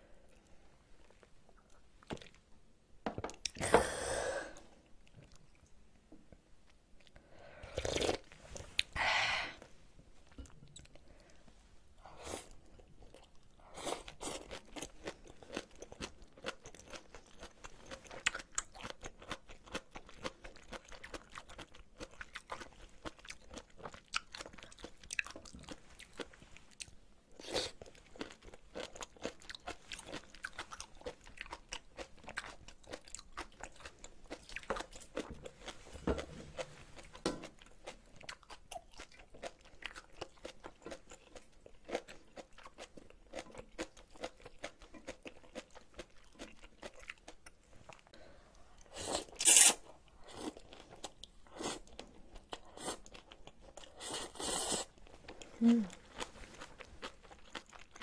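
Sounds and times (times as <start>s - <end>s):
chewing and crunching food: 0.3s - 2.5s, 4.8s - 9.0s, 10.2s - 11.6s, 12.4s - 58.0s.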